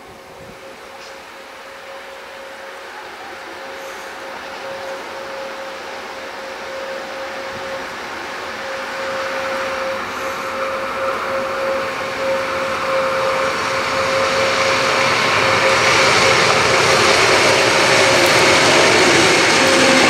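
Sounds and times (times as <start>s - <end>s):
diesel locomotive engine: 0.0s - 20.0s
steady whine: 0.0s - 20.0s.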